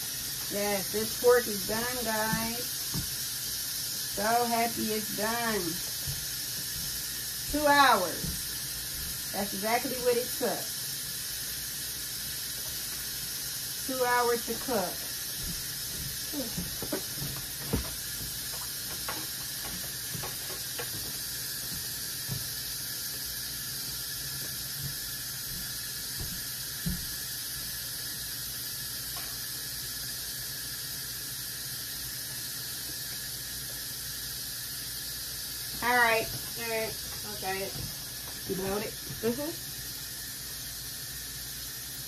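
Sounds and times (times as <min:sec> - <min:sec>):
meat sizzling in a pan: 0:00.0 - 0:42.0.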